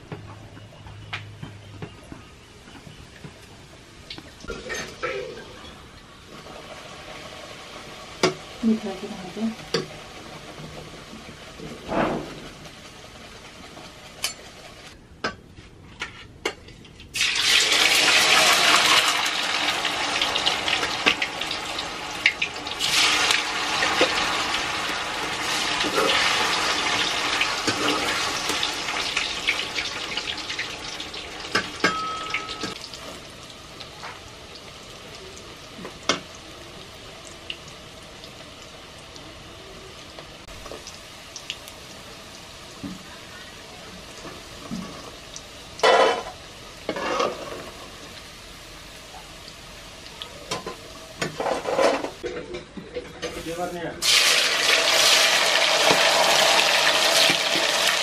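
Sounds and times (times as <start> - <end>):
food sizzling in hot oil: 4.4 - 15.0, 17.1 - 52.2, 53.2 - 58.0.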